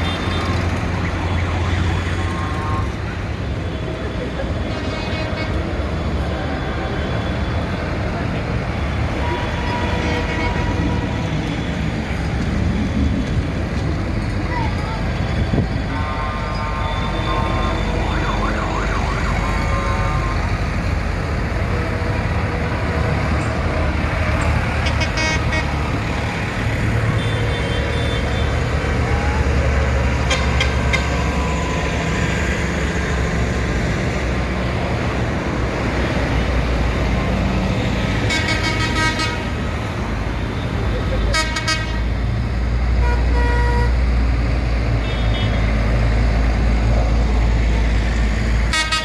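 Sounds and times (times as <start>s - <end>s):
tractor engines rumbling: 0.0s - 49.0s.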